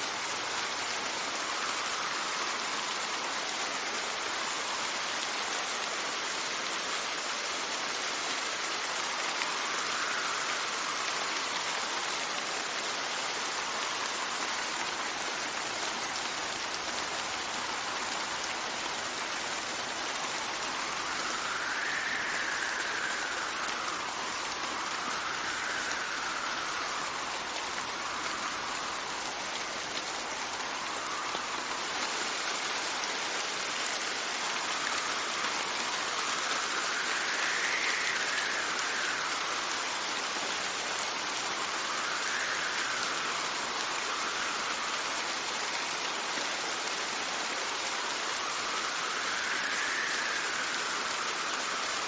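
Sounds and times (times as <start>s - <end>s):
faint wind whine: 0.0s - 52.0s
steady rain hiss: 0.0s - 52.0s.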